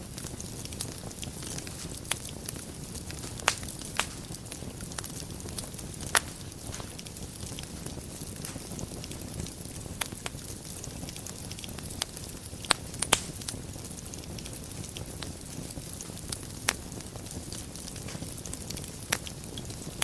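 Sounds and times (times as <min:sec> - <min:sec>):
fire crackles and pops: 0:00.0 - 0:20.0
fire rumbling and hissing: 0:00.0 - 0:20.0.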